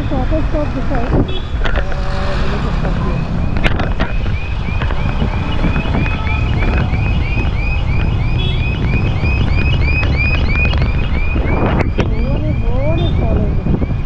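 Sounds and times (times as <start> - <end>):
low road traffic rumble: 0.0 - 14.0
wind buffeting microphone: 0.0 - 14.0.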